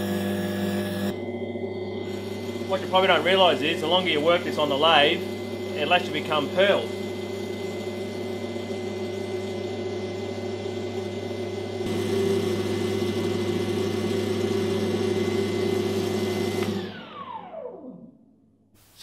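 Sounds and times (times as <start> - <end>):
lathe humming with high whine: 0.0 - 17.8
lathe spinning down: 0.0 - 18.1.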